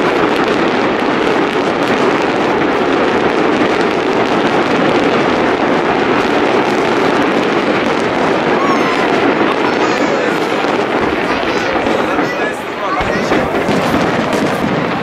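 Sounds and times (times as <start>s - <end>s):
fireworks bursts and crackles: 0.0s - 15.0s.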